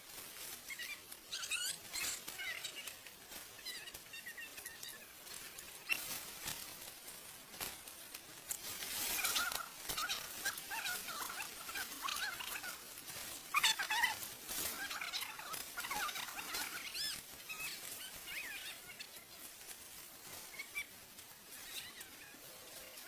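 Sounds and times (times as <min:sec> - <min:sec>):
rustling hiss: 0:00.0 - 0:23.0
small animals chirping: 0:00.1 - 0:23.0.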